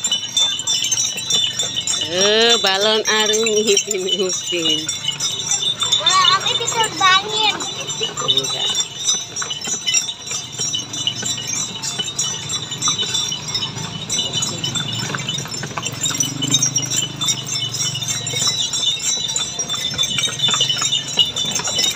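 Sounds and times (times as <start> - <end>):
harness bells jingling: 0.0 - 21.9.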